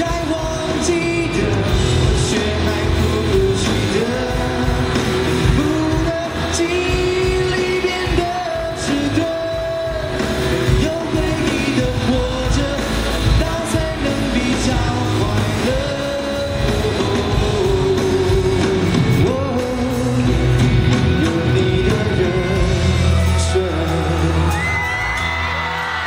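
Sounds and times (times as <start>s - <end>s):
man singing into microphone: 0.0s - 26.0s
pop-rock band playing: 0.0s - 26.0s.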